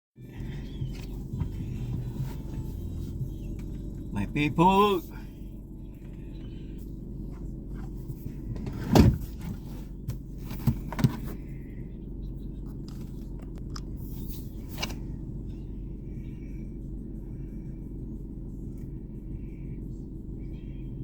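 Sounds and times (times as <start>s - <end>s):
low mechanical hum: 0.2s - 21.0s.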